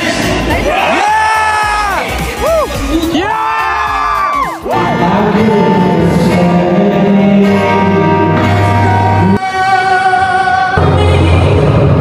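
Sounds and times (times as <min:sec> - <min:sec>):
guitar: 0:00.0 - 0:12.0
person singing: 0:00.0 - 0:12.0.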